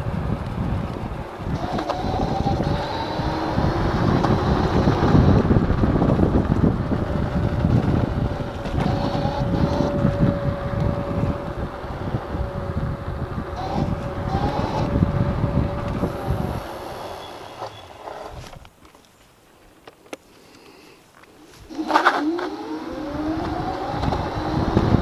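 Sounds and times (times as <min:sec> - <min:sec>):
wind rush on microphone: 0:00.0 - 0:17.3, 0:21.6 - 0:25.0
electric motor whine: 0:00.3 - 0:18.6, 0:21.6 - 0:25.0.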